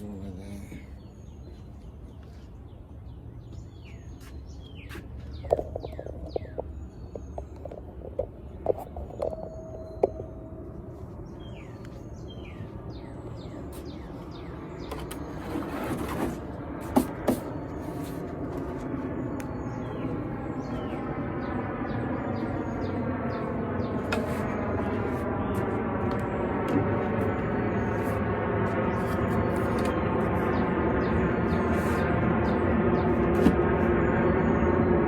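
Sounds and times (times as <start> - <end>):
birds chirping: 0.0 - 35.0
engine hum: 0.0 - 35.0.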